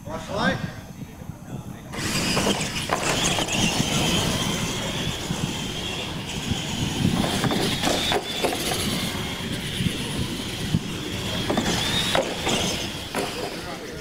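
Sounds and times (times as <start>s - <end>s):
toy truck motors whining: 1.9s - 14.0s
tyre noise on concrete: 2.0s - 14.0s.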